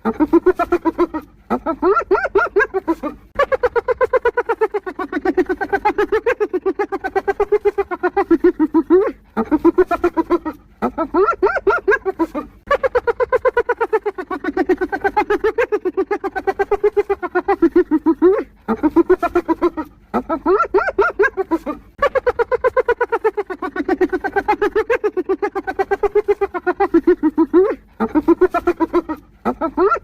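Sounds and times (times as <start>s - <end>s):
hyena giggling: 0.0s - 30.0s.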